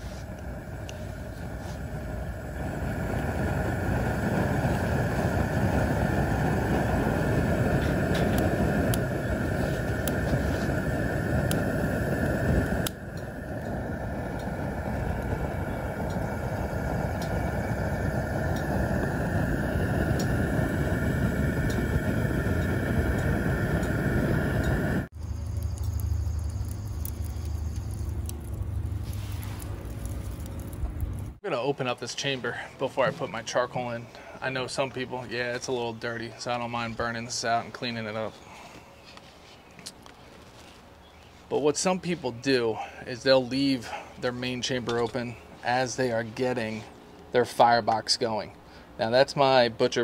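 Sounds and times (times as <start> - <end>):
gas burner flame rushing: 0.0 - 39.4, 41.4 - 50.0.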